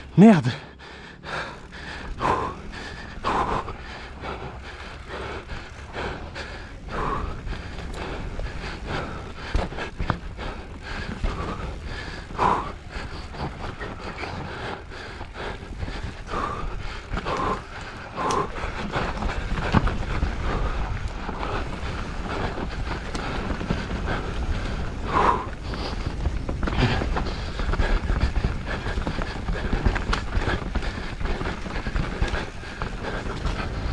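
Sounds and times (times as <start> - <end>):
rider breathing hard: 0.0 - 33.9
wind and tyres on dirt: 0.0 - 33.9
bike clattering: 1.6 - 33.9.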